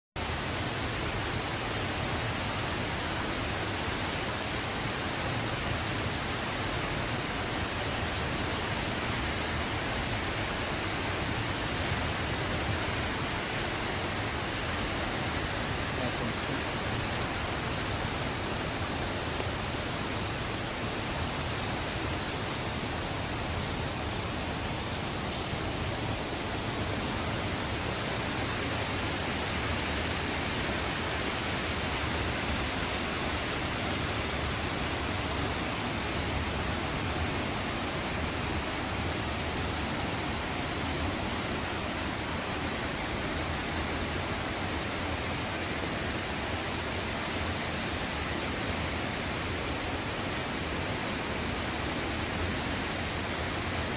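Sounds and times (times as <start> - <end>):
river water rushing: 0.2 - 53.9.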